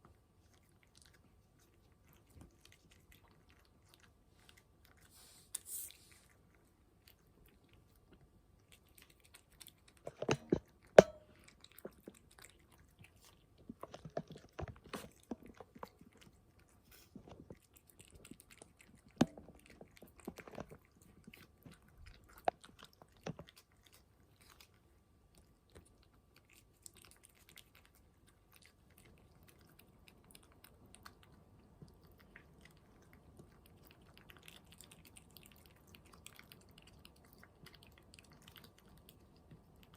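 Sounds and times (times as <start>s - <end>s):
cat chewing and crunching food: 0.0s - 39.9s.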